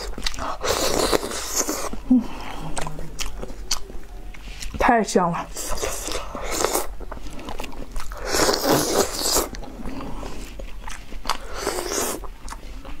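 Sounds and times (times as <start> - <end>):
chewing meat: 0.0 - 13.0.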